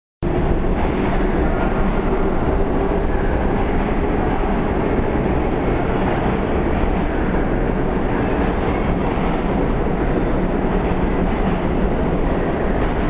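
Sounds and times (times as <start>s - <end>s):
subway train rumbling in tunnel: 0.2s - 13.0s.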